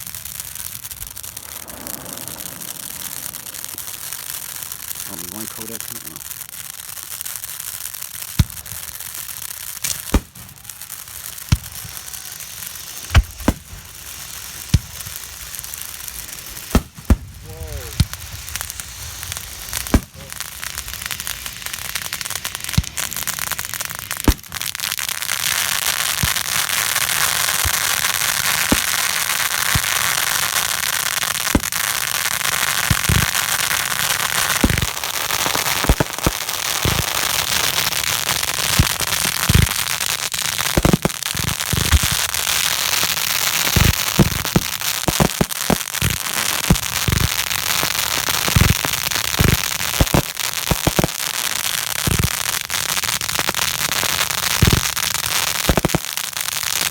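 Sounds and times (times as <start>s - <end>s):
fireworks crackling and banging: 0.0s - 56.9s.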